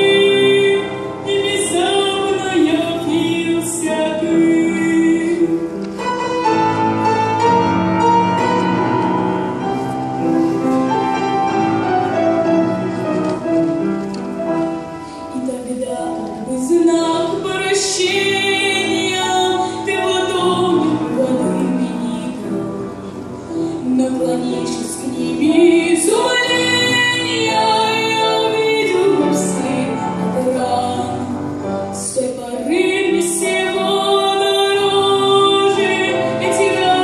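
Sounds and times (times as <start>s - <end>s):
instrumental accompaniment: 0.0s - 37.0s.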